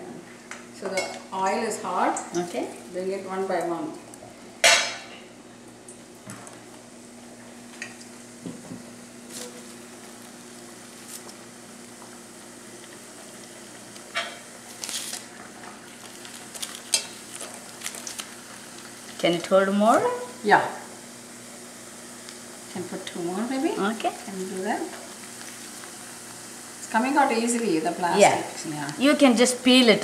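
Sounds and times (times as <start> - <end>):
food deep-frying in oil: 0.4 - 30.0.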